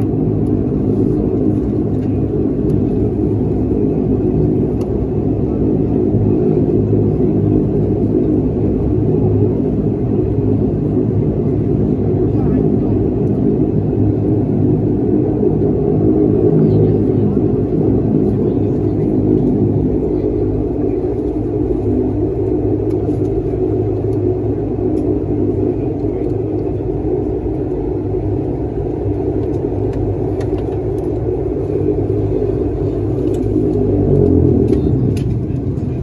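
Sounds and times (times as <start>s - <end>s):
turboprop engines droning: 0.0s - 36.0s.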